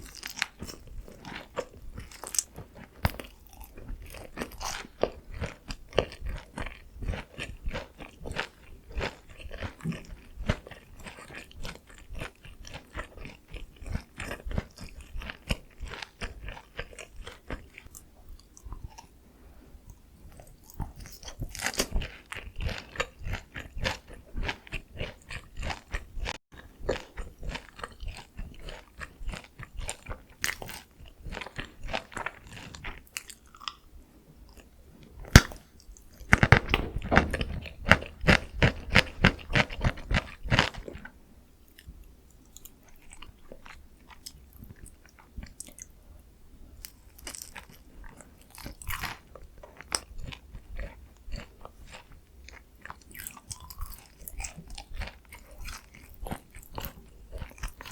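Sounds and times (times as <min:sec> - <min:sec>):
crunching fried chicken: 0:00.0 - 0:19.2, 0:20.3 - 0:33.9, 0:34.5 - 0:41.1, 0:46.8 - 0:57.9.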